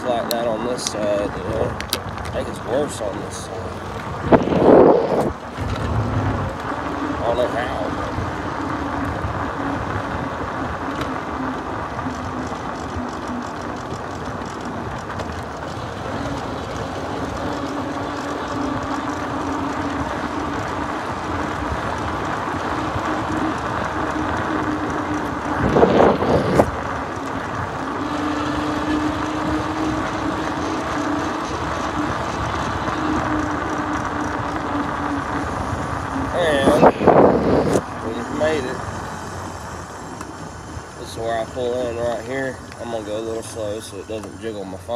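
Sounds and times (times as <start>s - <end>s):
motorcycle engine cruising: 0.0s - 44.9s
wind and road noise: 0.0s - 44.9s.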